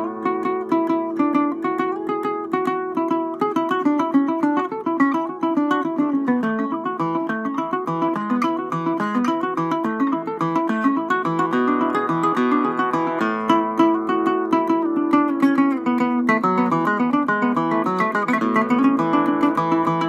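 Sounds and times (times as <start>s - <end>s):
plucked lute melody: 0.0s - 20.0s.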